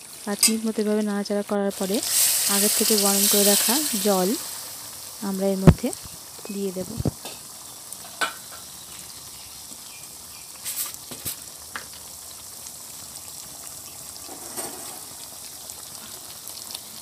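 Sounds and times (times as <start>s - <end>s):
curry sizzling in a pan: 0.0s - 17.0s.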